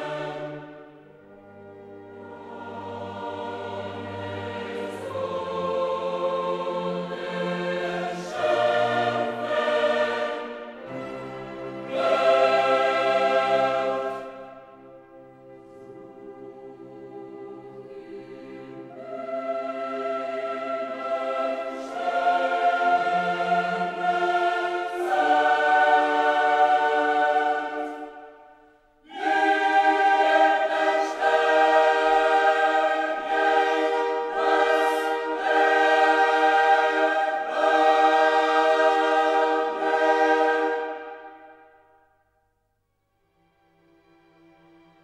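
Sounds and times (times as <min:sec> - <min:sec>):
choir singing held chords: 0:00.0 - 0:42.3.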